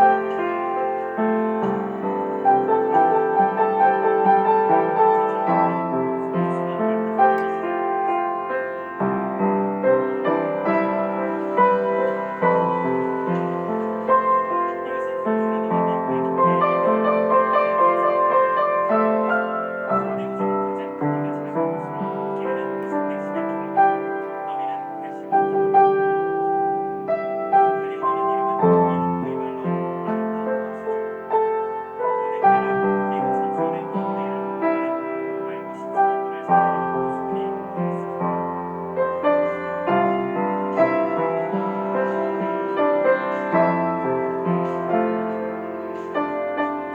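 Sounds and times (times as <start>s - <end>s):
solo piano music: 0.0s - 46.9s.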